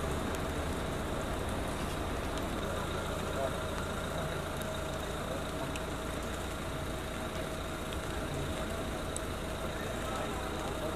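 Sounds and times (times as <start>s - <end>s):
engine idling: 0.0s - 10.9s
light hiss: 0.0s - 10.9s.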